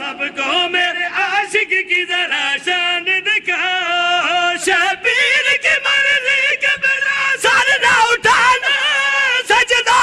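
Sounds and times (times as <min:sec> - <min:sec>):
man chanting into microphone: 0:00.0 - 0:10.0.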